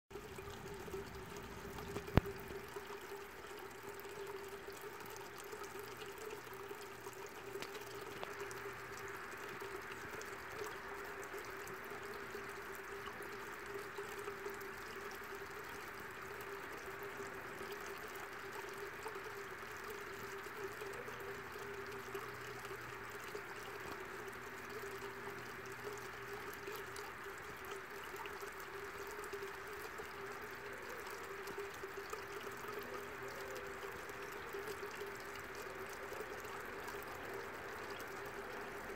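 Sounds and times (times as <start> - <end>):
water trickling into a pond: 0.1 - 38.9.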